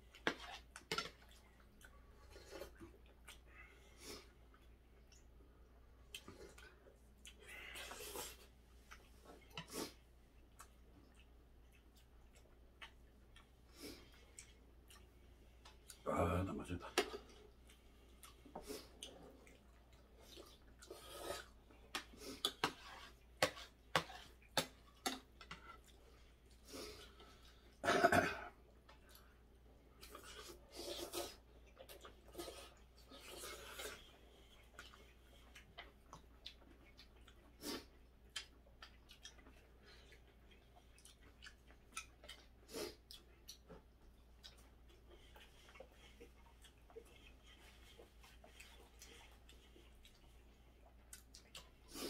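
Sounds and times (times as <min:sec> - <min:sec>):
eating and chewing noises: 0:00.0 - 0:52.0.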